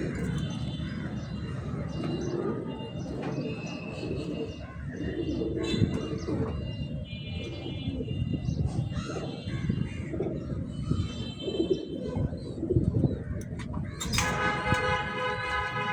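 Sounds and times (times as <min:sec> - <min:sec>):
pigeons cooing: 0:00.0 - 0:15.9.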